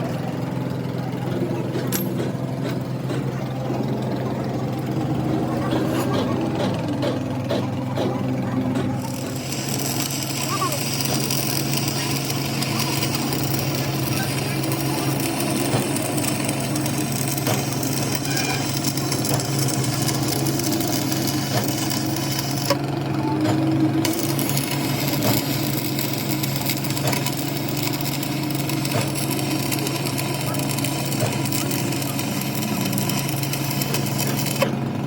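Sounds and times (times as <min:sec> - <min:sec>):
machine humming and hissing: 0:00.0 - 0:35.0.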